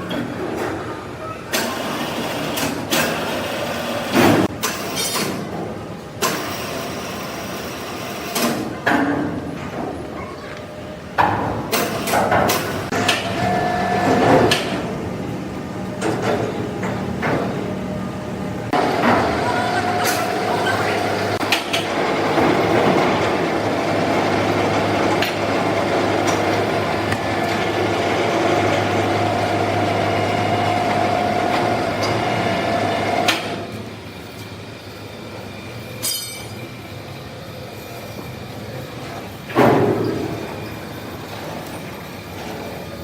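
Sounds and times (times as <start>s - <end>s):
sawmill machinery running: 1.5s - 5.0s, 11.7s - 43.0s.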